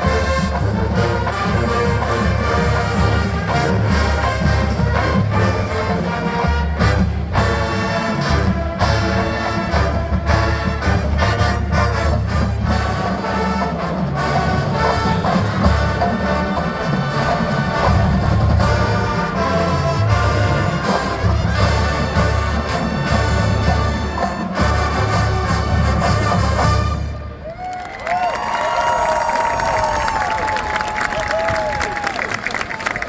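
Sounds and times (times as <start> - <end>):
drums: 0.0 - 32.1
marching band brass: 0.0 - 33.0.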